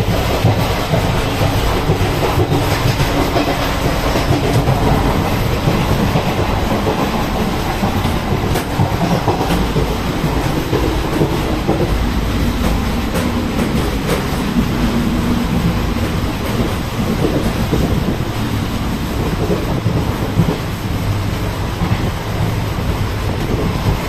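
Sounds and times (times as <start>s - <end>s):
train wheels rumbling and rattling: 0.0s - 24.0s.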